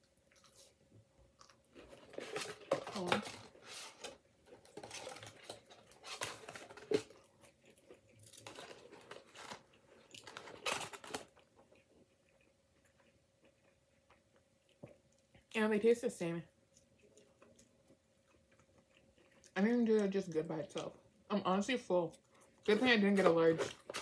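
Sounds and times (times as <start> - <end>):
chewing and crunching food: 0.0 - 15.6, 16.4 - 24.0
faint steady hum: 0.0 - 24.0.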